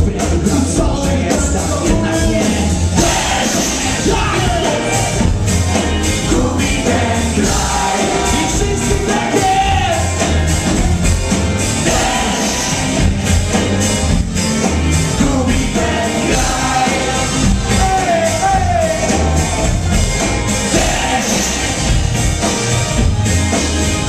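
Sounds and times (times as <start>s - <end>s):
lead vocal singing: 0.0s - 13.8s, 14.6s - 22.5s
bass guitar: 0.0s - 24.0s
drums: 0.0s - 24.0s
keyboards: 0.0s - 24.0s.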